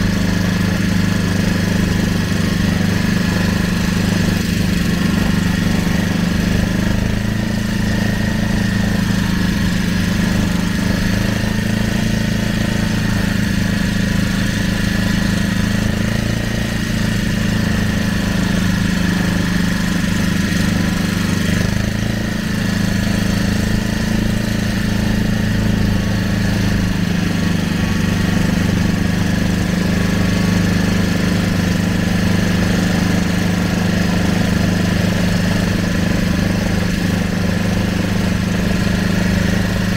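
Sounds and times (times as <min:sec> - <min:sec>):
motorboat engine humming: 0:00.0 - 0:39.9.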